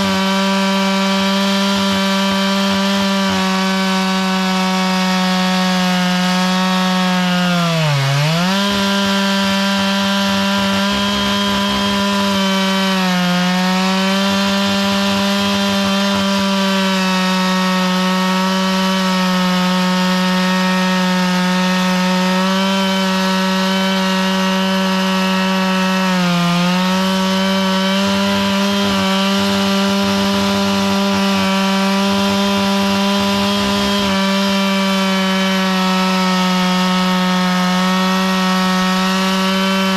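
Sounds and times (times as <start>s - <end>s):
chainsaw milling wood: 0.0s - 39.9s.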